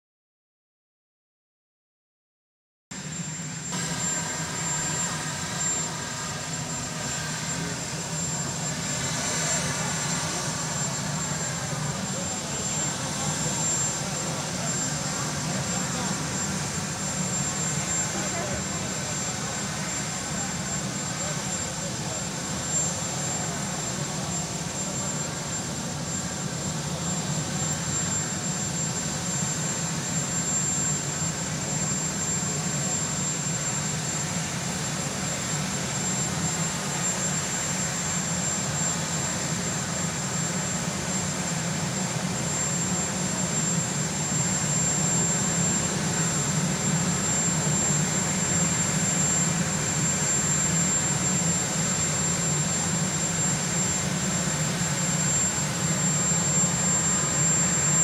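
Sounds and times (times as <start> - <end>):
helicopter turbine engines running: 3.0 - 58.0.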